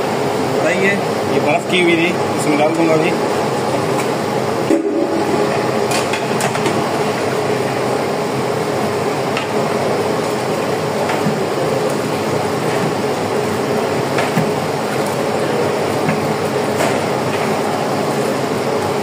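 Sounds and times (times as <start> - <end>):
pot boiling with rushing noise: 0.0 - 19.0.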